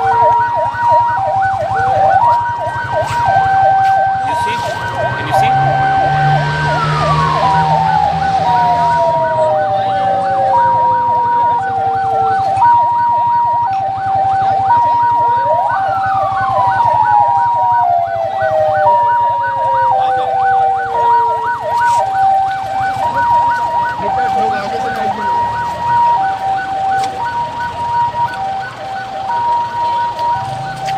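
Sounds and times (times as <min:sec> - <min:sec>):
fast warbling siren: 0:00.0 - 0:30.9
two-tone hi-lo siren: 0:00.0 - 0:30.9
wailing siren: 0:00.0 - 0:30.9.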